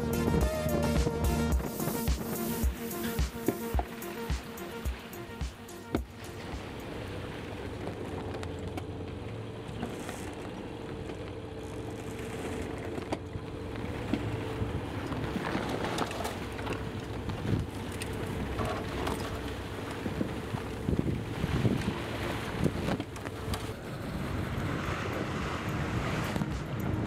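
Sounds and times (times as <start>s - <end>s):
sea noise: 0.0s - 27.0s
wind: 0.0s - 27.0s.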